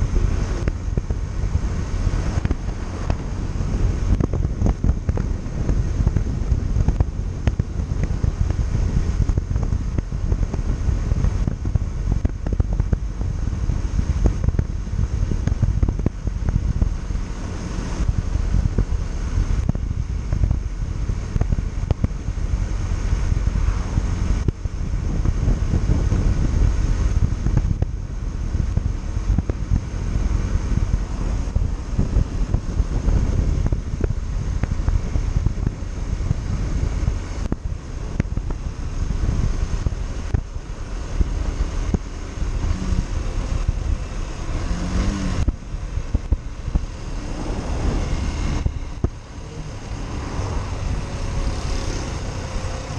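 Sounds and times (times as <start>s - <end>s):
motorcycle engine: 0.0s - 52.9s
road noise: 0.0s - 52.9s
wind buffeting microphone: 0.0s - 52.9s.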